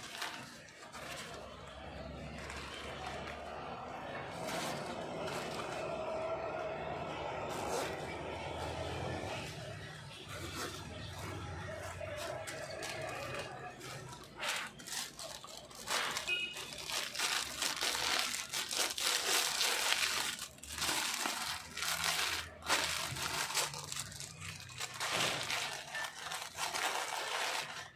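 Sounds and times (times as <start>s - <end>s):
plastic packaging crinkling: 0.0s - 9.2s, 9.8s - 27.9s.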